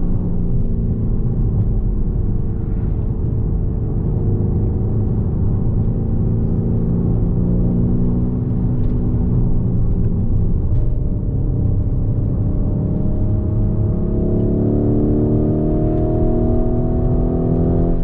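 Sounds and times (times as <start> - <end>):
car engine cruising: 0.0 - 18.0.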